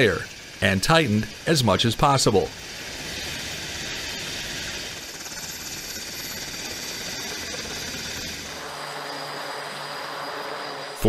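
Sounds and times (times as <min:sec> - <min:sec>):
aircraft engines running: 0:00.0 - 0:11.0.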